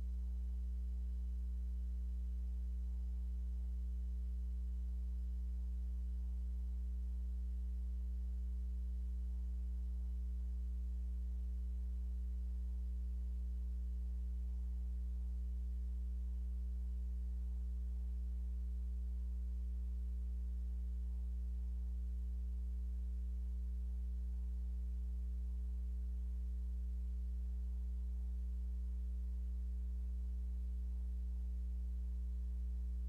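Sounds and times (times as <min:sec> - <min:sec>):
low electrical mains hum: 0:00.0 - 0:33.0.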